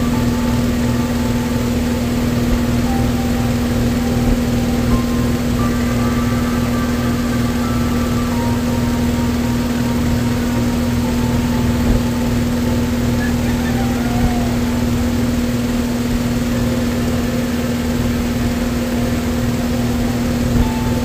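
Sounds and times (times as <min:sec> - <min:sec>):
low rumble: 0:00.0 - 0:21.0
mechanical hum: 0:00.0 - 0:21.0.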